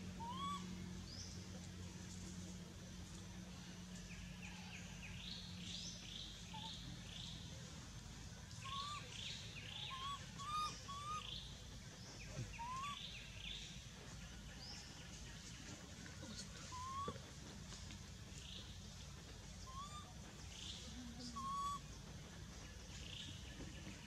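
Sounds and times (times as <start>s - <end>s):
birds singing: 0.0s - 1.6s, 4.1s - 17.8s, 18.4s - 24.0s
low background hum: 0.0s - 24.0s.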